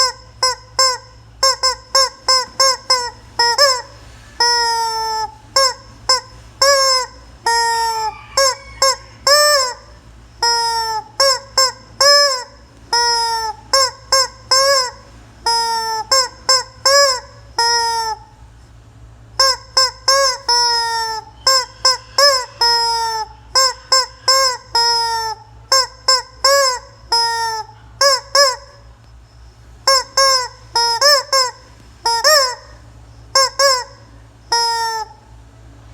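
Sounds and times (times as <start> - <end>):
rubber chicken toy squawking: 0.0 - 18.4, 19.3 - 35.3.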